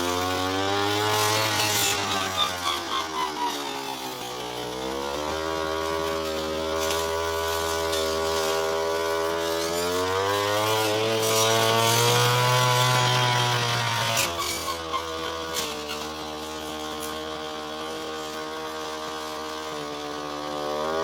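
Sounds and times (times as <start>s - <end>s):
brush cutter engine running: 0.0s - 21.0s.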